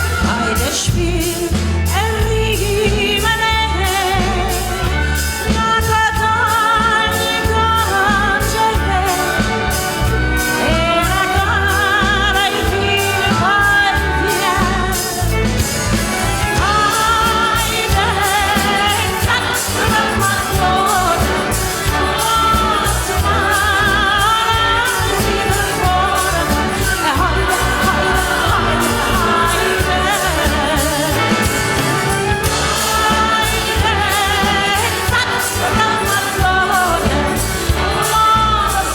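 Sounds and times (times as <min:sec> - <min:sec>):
orchestral accompaniment: 0:00.0 - 0:38.9
woman singing with vibrato: 0:00.0 - 0:38.9.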